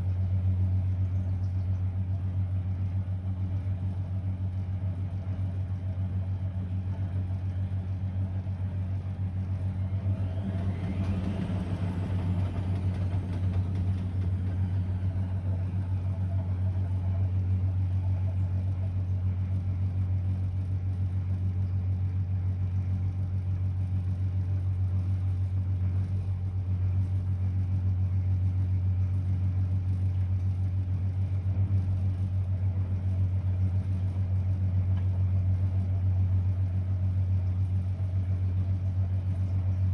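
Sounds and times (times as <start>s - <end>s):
washing machine low hum: 0.0s - 39.9s.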